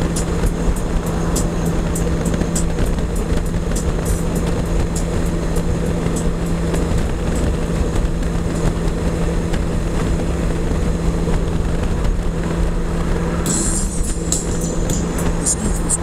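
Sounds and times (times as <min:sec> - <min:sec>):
motorcycle engine drone: 0:00.0 - 0:16.0
wind and road rush: 0:00.0 - 0:16.0.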